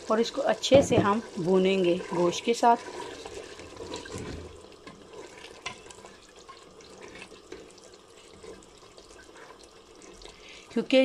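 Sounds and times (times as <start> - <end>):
wet churning of thick curry: 1.2 - 10.7.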